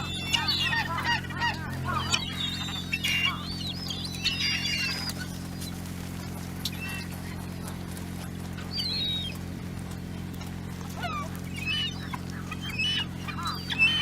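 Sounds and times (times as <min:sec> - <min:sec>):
birds calling: 0:00.0 - 0:14.0
steady low hum: 0:00.0 - 0:14.0.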